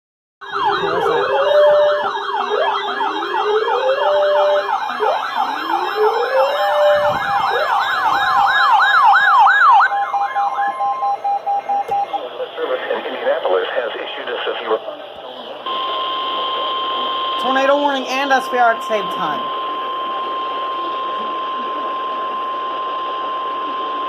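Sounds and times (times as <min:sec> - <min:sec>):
sirens sweeping and wailing: 0:00.4 - 0:24.0.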